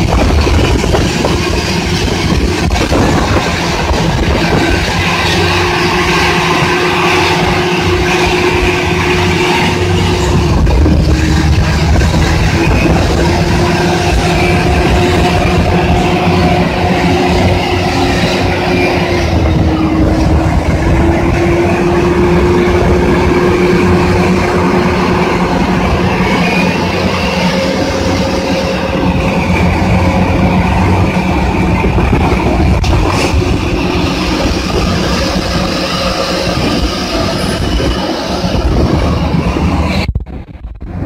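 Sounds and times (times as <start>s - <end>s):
mining shovel diesel drone: 0.0s - 41.0s.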